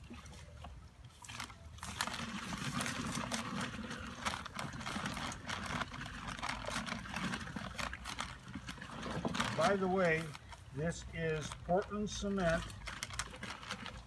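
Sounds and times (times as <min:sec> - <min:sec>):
paper sack crackling: 0:01.1 - 0:14.0
powder pouring into water: 0:01.1 - 0:14.0.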